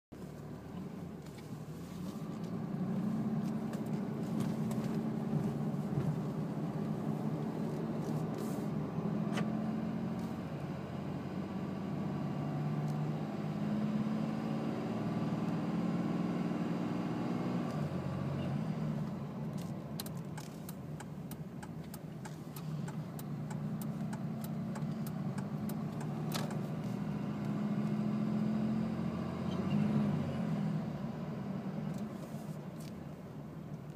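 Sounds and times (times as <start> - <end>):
diesel engine droning: 0.2 - 33.9.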